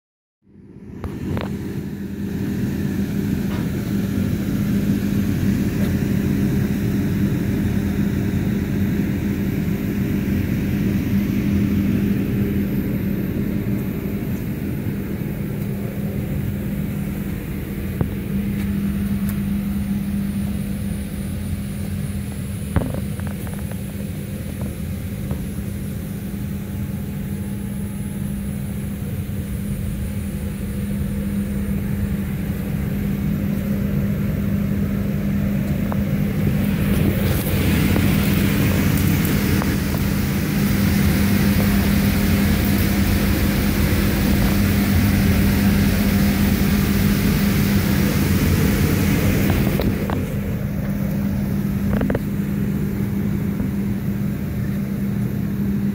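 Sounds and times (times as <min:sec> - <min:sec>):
blower fan humming: 0:00.5 - 0:55.9.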